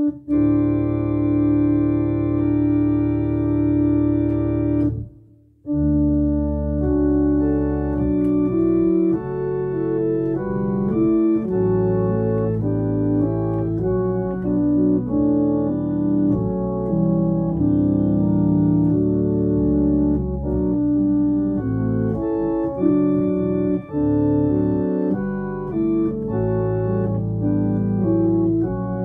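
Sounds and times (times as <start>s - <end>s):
organ playing slow held chords: 0.0s - 29.0s.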